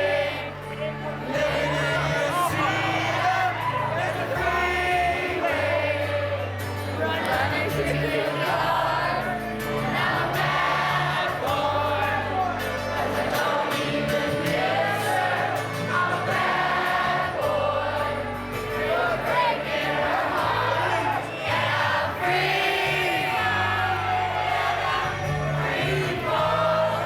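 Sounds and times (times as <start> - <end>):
group of voices singing: 0.0 - 27.0
held bass notes: 0.0 - 27.0.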